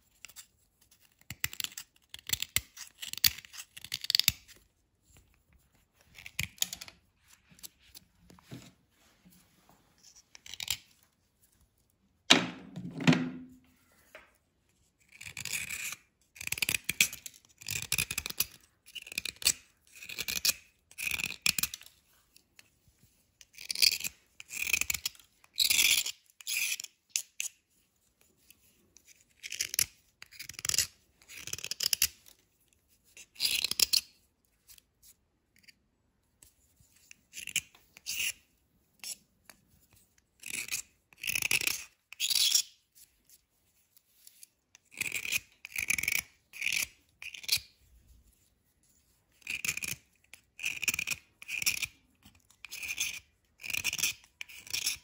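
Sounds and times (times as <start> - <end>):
knife scraping chalky bar: 0.0 - 5.4, 15.0 - 35.8, 36.4 - 55.0.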